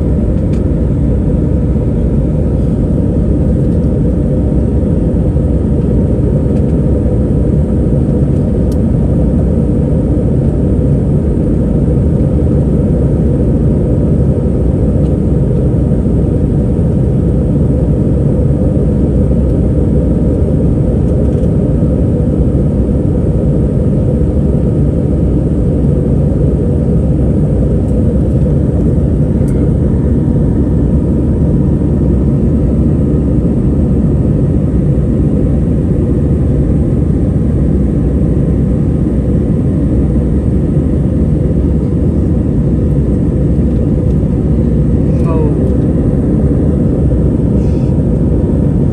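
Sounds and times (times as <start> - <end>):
airplane cabin engine drone: 0.0 - 48.9.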